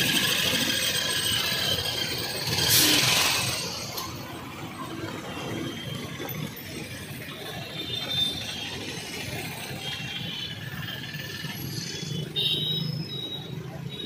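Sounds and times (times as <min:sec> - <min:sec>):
cars passing: 0:00.0 - 0:14.0
motorcycles passing: 0:00.0 - 0:14.0.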